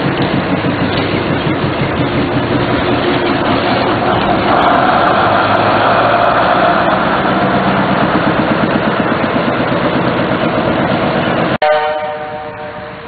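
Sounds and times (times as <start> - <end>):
rail tractor engine running: 0.0 - 13.0.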